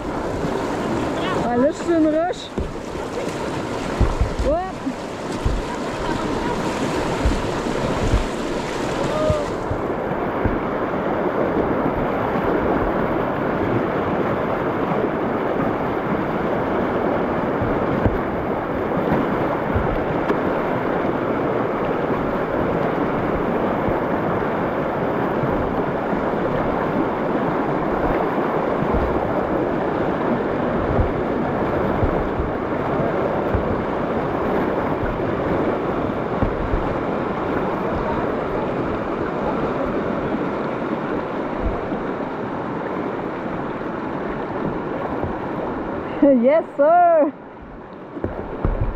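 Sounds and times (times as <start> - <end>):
wind buffeting microphone: 0.0 - 46.5, 47.5 - 48.9
river rapids rushing: 0.0 - 48.9.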